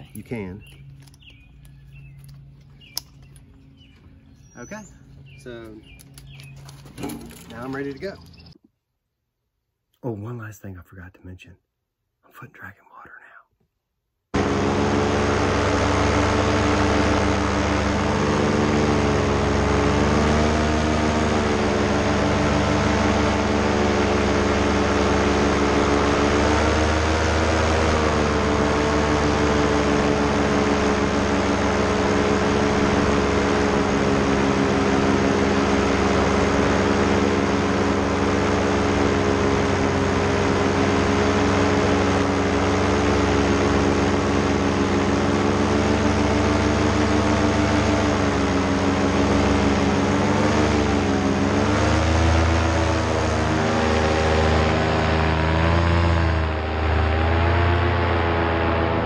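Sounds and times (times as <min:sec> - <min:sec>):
paramotor engine and propeller: 0:00.0 - 0:08.6, 0:14.3 - 0:59.0.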